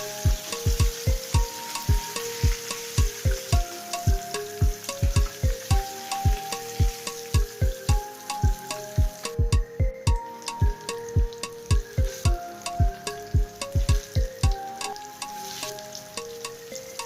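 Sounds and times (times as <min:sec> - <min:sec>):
music with deep drum beat: 0:00.0 - 0:15.0
fish sizzling in hot oil: 0:00.0 - 0:17.0.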